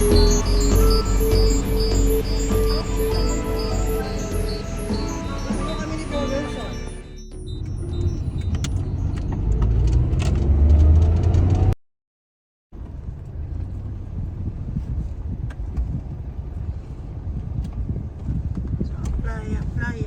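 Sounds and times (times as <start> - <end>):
vehicle engine rumbling: 0.0 - 11.8, 12.8 - 20.0.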